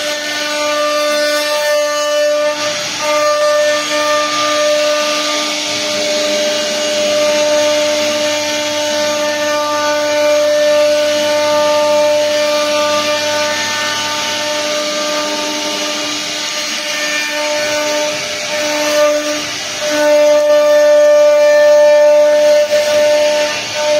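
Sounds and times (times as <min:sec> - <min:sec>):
cutting hiss: 0:00.0 - 0:23.9
machine spindle whine: 0:00.0 - 0:23.9.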